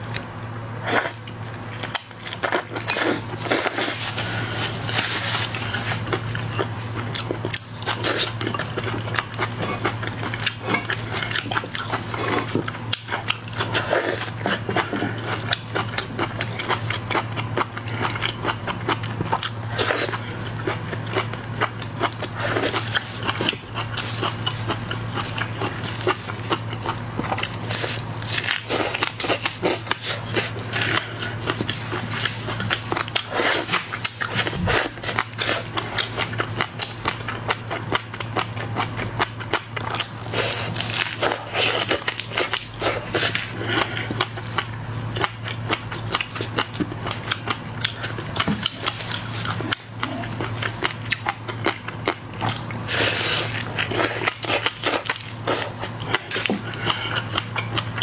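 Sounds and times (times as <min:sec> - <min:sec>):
steady low hum: 0:00.0 - 0:58.0
wet chewing: 0:01.8 - 0:58.0.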